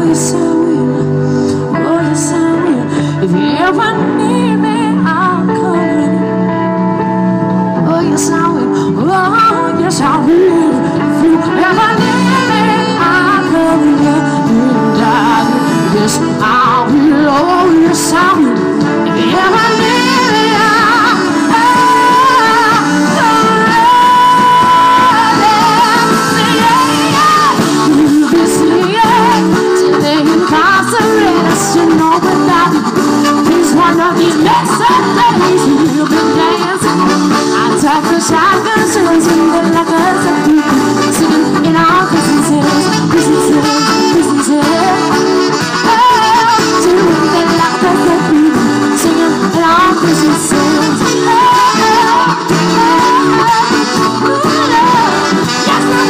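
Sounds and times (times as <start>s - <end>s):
live rock band playing: 0.0s - 56.0s
person singing: 0.0s - 56.0s
saxophone: 0.0s - 56.0s.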